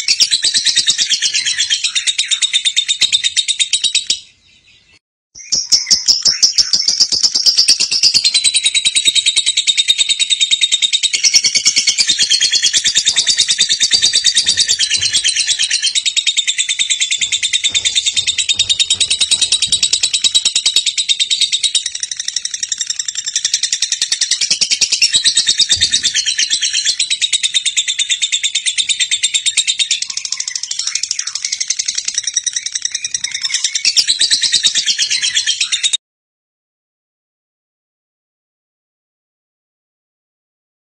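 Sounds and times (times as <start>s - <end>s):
lovebird chirping trill: 0.0s - 35.8s.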